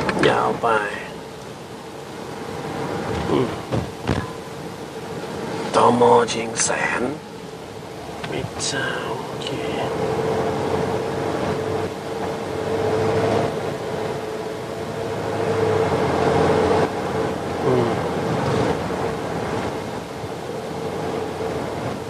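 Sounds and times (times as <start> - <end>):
constant car hum: 0.0 - 22.0
road and wind noise: 0.0 - 22.0.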